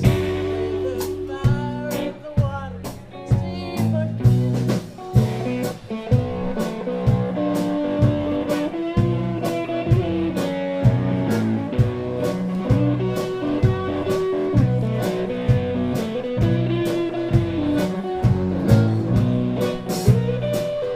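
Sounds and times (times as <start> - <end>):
drums steady beat: 0.0 - 20.9
electric guitar bending notes: 0.0 - 20.9
live blues band: 0.0 - 20.9.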